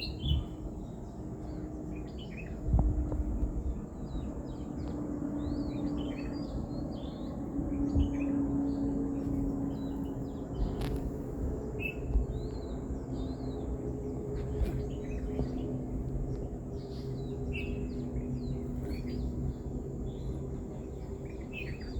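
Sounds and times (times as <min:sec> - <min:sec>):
low hum and rumble: 0:00.0 - 0:21.9
small birds chirping: 0:00.0 - 0:21.9.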